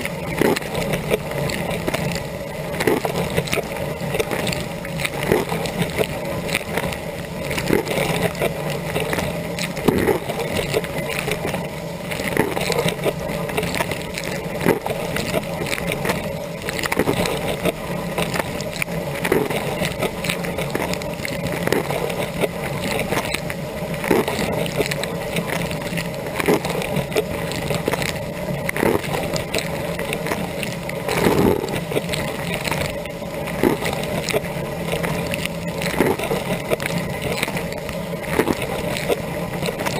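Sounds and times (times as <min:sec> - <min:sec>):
circulation pump hum: 0:00.0 - 0:39.9
water jets spattering: 0:00.0 - 0:39.9
water splashes: 0:00.0 - 0:39.9.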